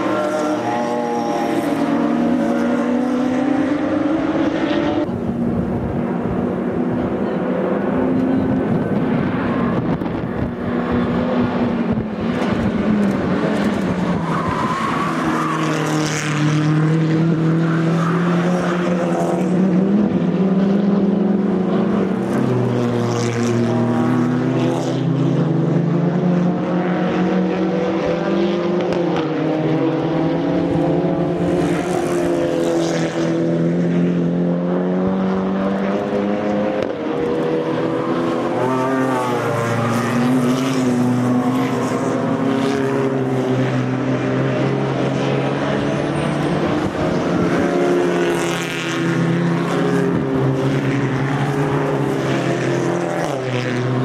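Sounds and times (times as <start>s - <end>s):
race cars passing: 0.0s - 54.0s.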